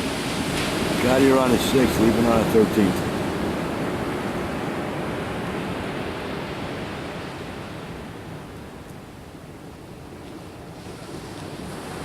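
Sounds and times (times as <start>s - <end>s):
surf washing on rocky shore: 0.0s - 12.0s.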